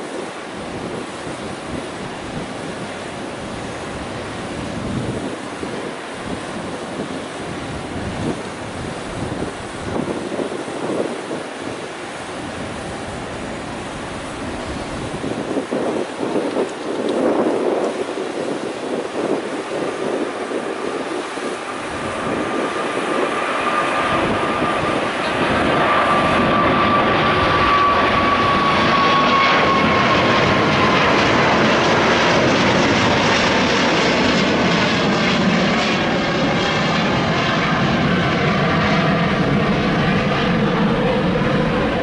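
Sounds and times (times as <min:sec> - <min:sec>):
jet engine whine: 0:00.0 - 0:42.0
jet airliner climbing: 0:00.1 - 0:42.0.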